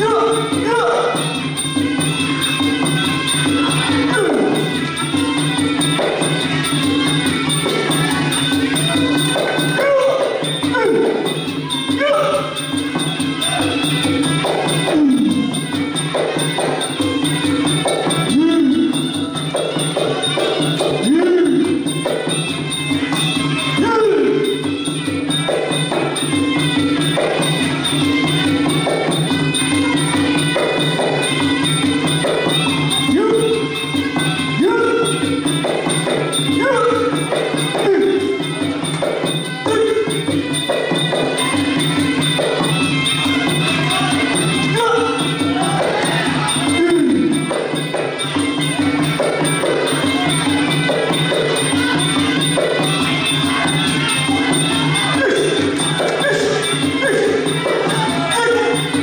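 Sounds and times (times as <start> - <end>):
repeating drum rhythm: 0.0 - 59.0
small hand cymbals: 0.0 - 59.0.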